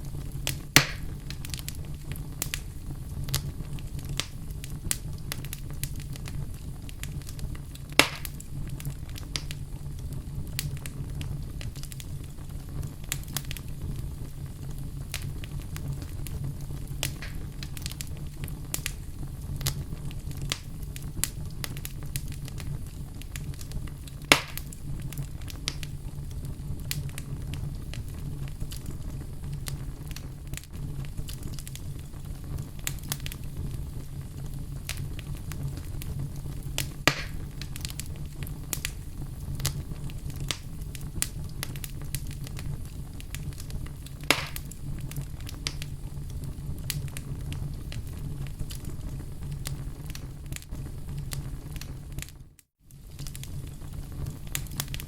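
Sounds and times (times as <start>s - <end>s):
fire crackling in a fireplace: 0.0s - 55.0s
low rumble of fire: 0.0s - 55.0s
sharp pops of fire: 0.0s - 55.0s.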